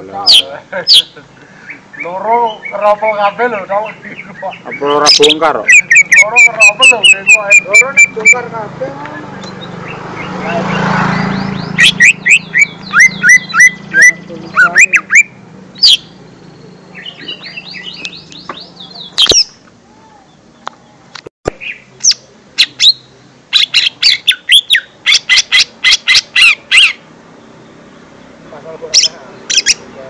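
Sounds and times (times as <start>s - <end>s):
bird chirping and whistling: 0.2s - 8.4s, 9.2s - 16.2s, 16.8s - 19.6s, 21.6s - 27.0s, 29.0s - 29.8s.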